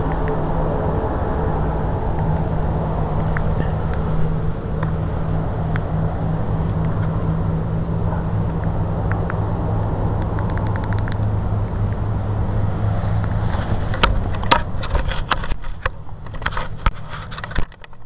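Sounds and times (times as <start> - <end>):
low droning hum: 0.0 - 18.0
outdoor background noise: 0.0 - 18.0.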